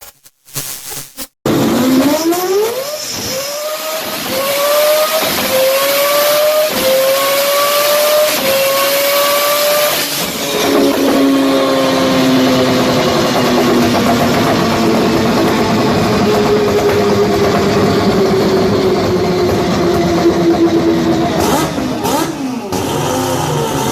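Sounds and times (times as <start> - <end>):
rotary engine accelerating: 1.6 - 23.9.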